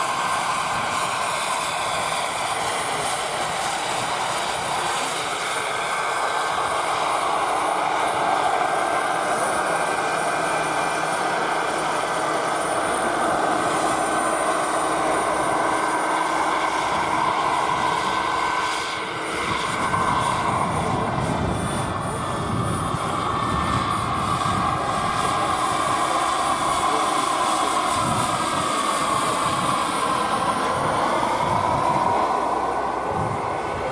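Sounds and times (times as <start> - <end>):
model helicopter engine drone: 0.0 - 33.9.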